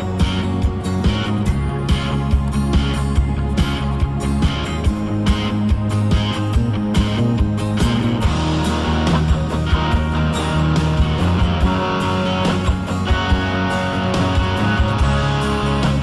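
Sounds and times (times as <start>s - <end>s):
instrumental rock music: 0.0s - 16.0s.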